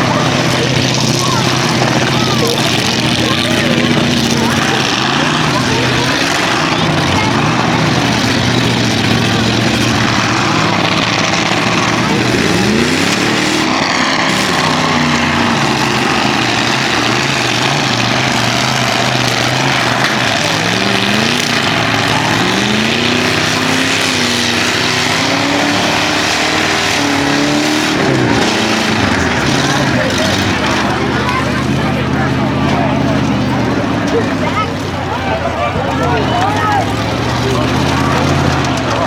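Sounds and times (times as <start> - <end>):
crowd noise: 0.0 - 39.0
truck engines revving: 0.0 - 39.0.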